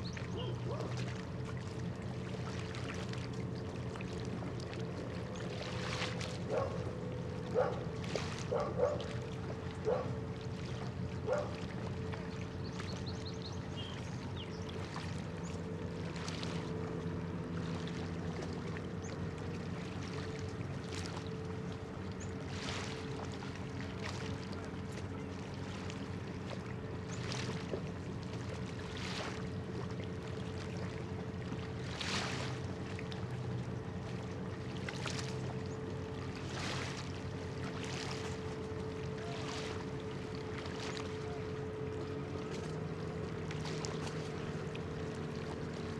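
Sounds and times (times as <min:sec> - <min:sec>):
ship engines droning: 0:00.0 - 0:45.9
small waves splashing: 0:00.0 - 0:45.9.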